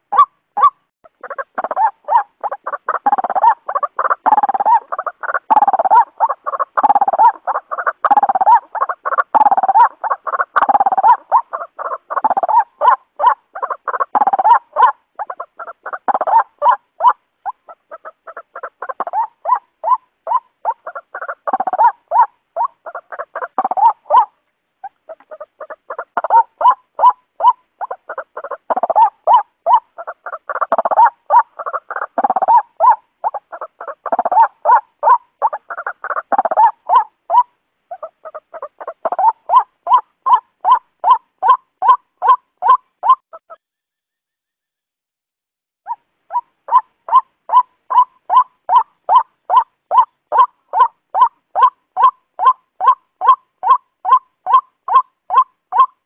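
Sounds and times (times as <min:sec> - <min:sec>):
waterhen croaking calls: 0:00.0 - 0:43.7, 0:45.9 - 0:56.0.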